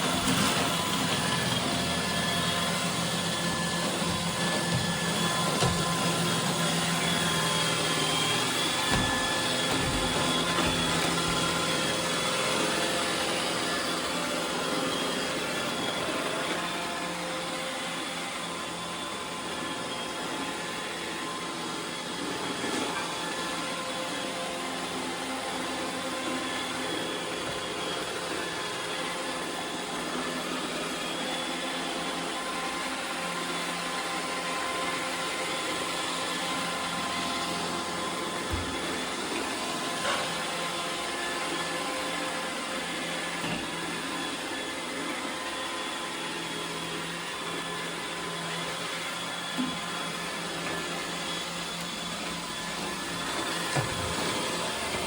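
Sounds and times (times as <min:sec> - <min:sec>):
robot vacuum motors whirring: 0:00.0 - 0:55.0.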